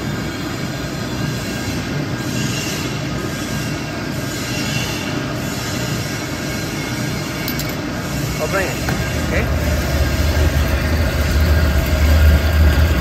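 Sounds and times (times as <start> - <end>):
mixer mechanical hum: 0.0 - 13.0.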